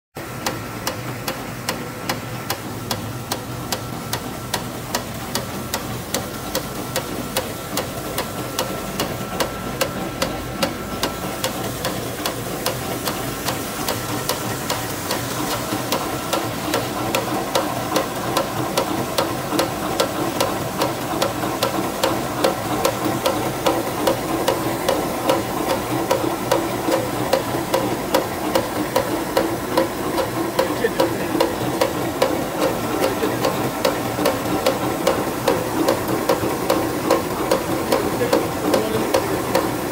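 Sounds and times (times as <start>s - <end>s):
paper shredder humming and clacking: 0.2s - 39.9s.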